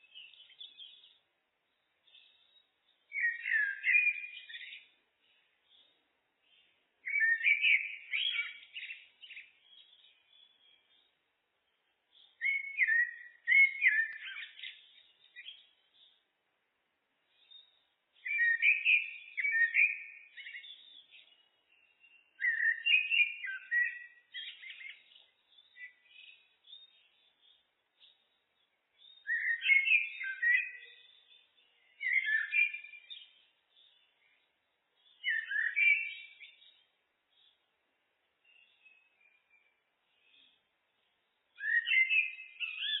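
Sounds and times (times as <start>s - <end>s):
blackbird singing: 0.0s - 16.2s, 17.3s - 37.7s, 38.4s - 43.0s.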